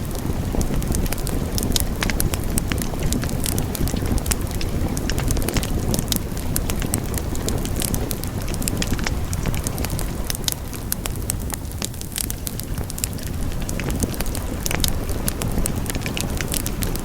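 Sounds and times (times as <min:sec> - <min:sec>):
fire crackling and popping: 0:00.0 - 0:17.0
fire flames rumbling and hissing: 0:00.0 - 0:17.0.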